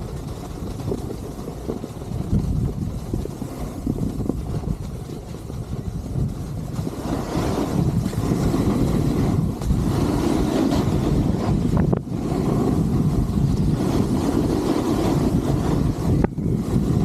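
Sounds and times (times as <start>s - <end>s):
skis running on snow: 0.0s - 17.0s
wind rushing over microphone: 0.0s - 17.0s.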